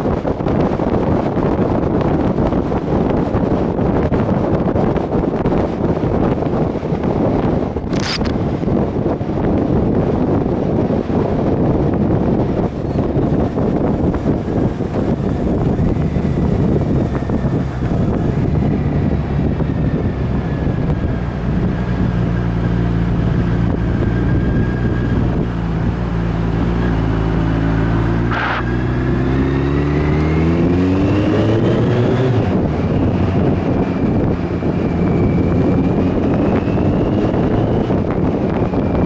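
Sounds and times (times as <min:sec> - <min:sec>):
motorcycle engine: 0:00.0 - 0:39.0
wind rushing over microphone: 0:00.0 - 0:39.0.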